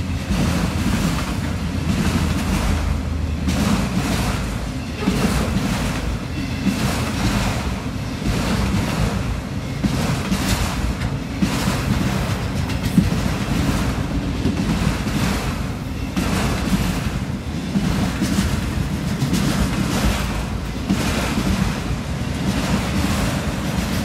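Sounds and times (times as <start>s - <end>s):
freight train rolling past: 0.0s - 24.0s.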